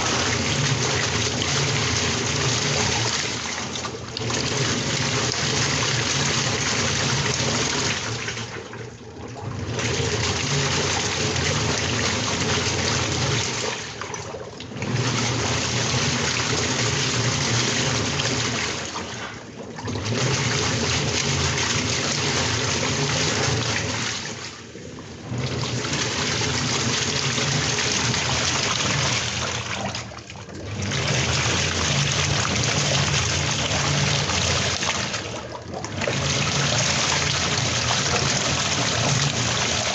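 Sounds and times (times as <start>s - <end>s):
water rushing and sloshing: 0.0s - 39.9s.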